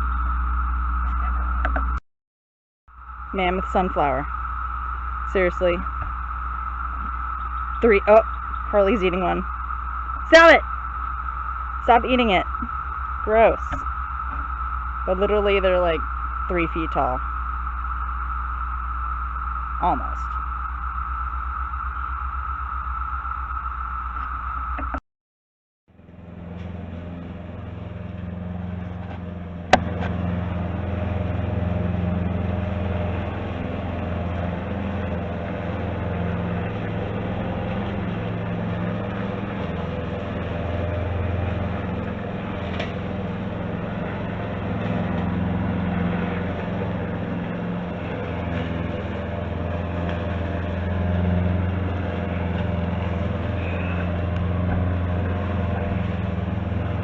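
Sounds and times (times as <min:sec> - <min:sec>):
cicadas droning: 0:00.0 - 0:02.0, 0:02.9 - 0:25.0, 0:26.0 - 0:57.0
lawn mower engine running: 0:03.0 - 0:25.0, 0:25.9 - 0:57.0.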